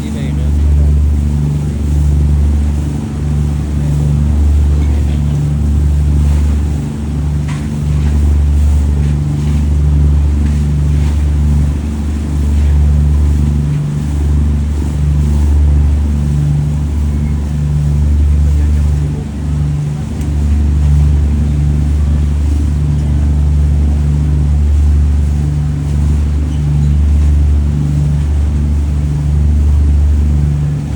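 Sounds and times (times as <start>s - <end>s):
motorboat engine droning: 0.0s - 30.9s.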